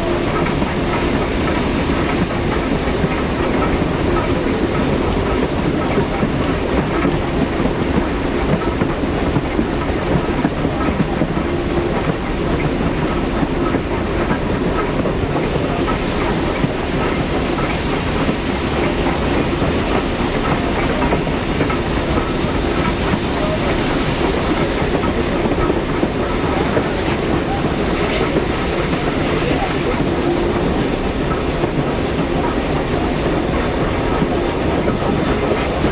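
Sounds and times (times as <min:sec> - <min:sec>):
train wheels rolling on rails: 0:00.0 - 0:35.9.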